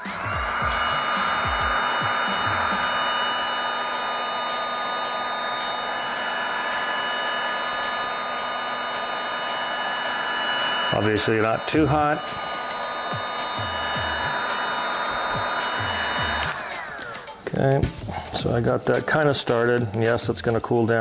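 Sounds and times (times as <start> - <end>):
heat gun fan whine: 0.0 - 21.0.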